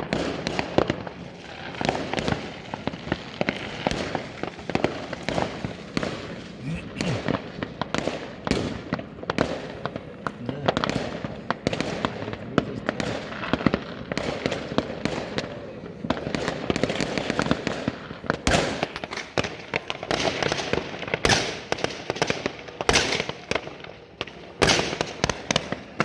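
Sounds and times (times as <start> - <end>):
fireworks popping and banging: 0.0 - 26.0.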